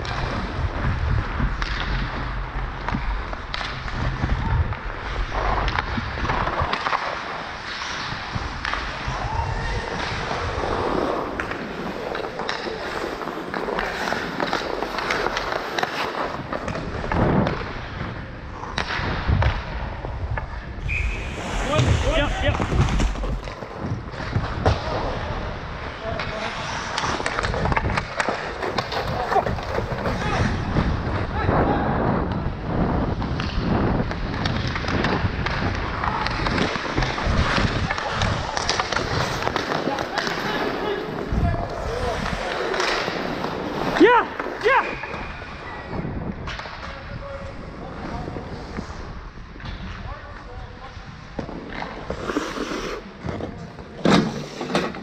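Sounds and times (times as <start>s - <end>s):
wind noise on microphone: 0.0s - 6.8s, 7.5s - 12.8s, 16.3s - 40.0s, 41.2s - 42.5s, 44.8s - 53.6s
hockey sticks and puck clacking: 0.0s - 25.2s, 25.8s - 31.2s, 33.1s - 50.5s, 51.3s - 55.0s
skates scraping on ice: 0.0s - 55.0s.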